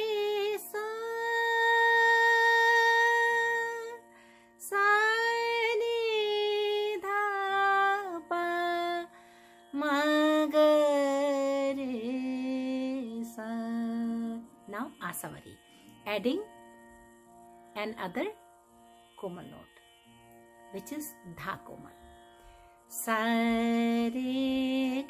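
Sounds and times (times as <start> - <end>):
woman singing scale: 0.0 - 16.9, 17.5 - 25.0.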